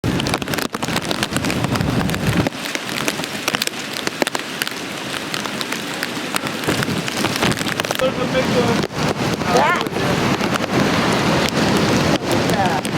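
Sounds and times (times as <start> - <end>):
heavy rain pelting: 0.0 - 12.9
low wind rumble: 0.0 - 12.9.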